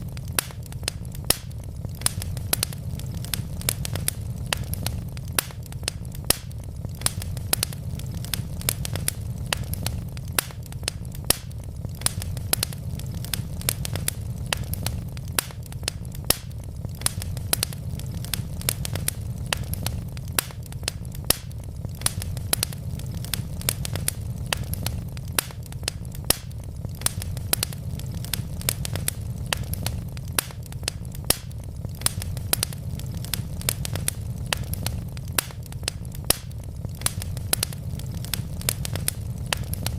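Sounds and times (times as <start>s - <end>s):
burning logs crackling and popping: 0.0s - 39.9s
fire flames rumbling: 0.0s - 39.9s.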